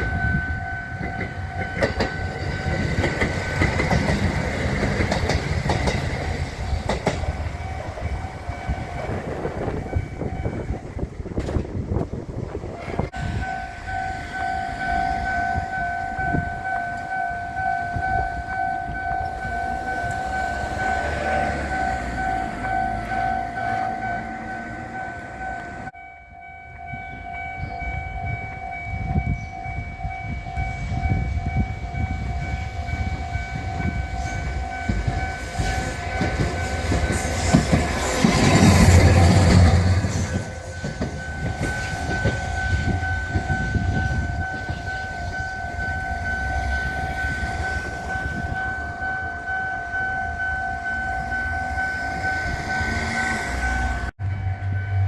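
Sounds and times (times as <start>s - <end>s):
level crossing warning bell: 0.0s - 11.2s, 13.1s - 55.0s
train rumbling over crossing: 0.0s - 55.0s.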